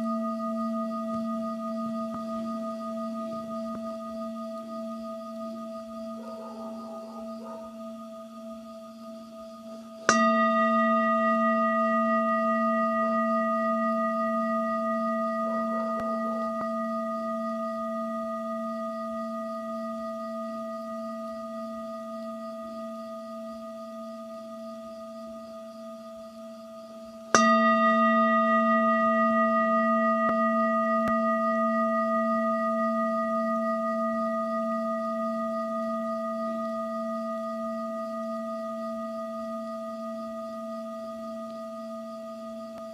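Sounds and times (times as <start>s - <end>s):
singing bowl ringing: 0.0s - 42.9s.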